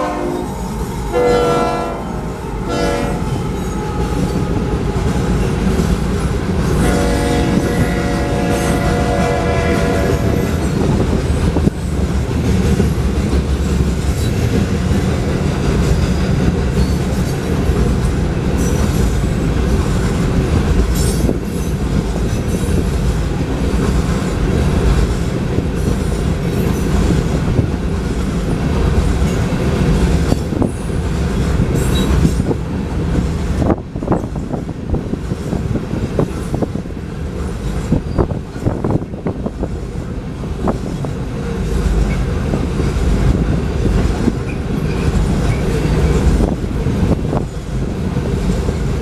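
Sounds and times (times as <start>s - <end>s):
train wheels clattering on rails: 0.0s - 49.0s.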